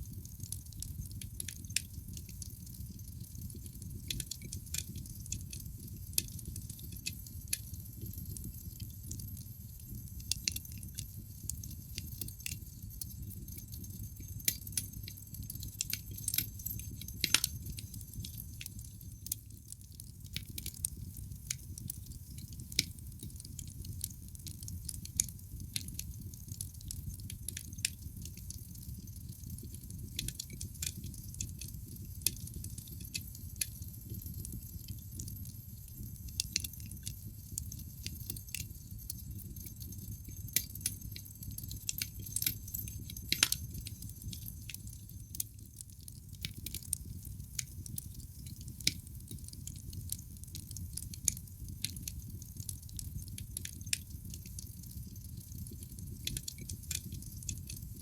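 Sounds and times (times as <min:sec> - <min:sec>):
wood fire crackling: 0:00.0 - 0:58.0
fire pops and snaps: 0:00.1 - 0:58.0.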